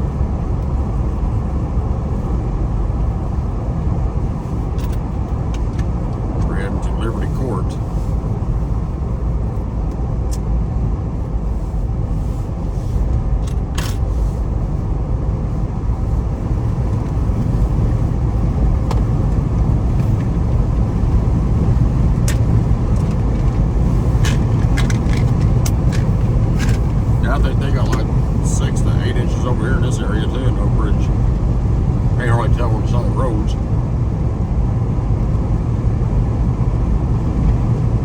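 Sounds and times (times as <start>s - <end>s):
road and engine noise in car: 0.0s - 38.0s.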